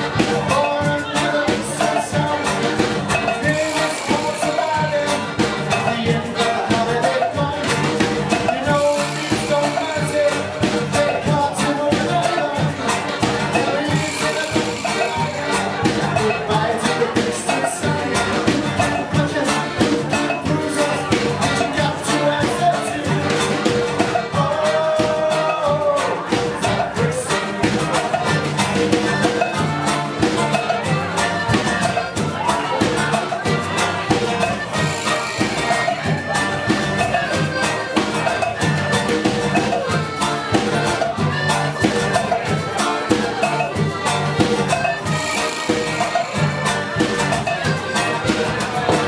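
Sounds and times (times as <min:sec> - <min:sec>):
congas and timbales beat: 0:00.0 - 0:49.0
latin dance band playing: 0:00.0 - 0:49.0.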